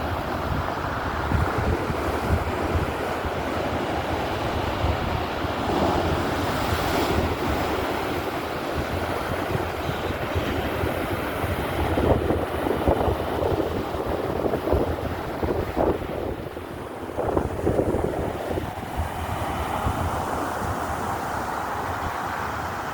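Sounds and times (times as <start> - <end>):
waves breaking: 0.0 - 22.9
wind buffeting microphone: 0.0 - 22.9.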